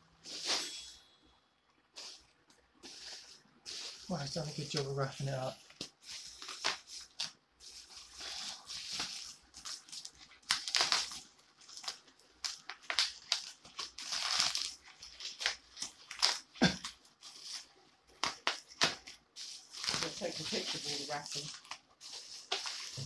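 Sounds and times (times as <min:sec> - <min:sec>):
bubble wrap crinkling: 0:01.9 - 0:23.0.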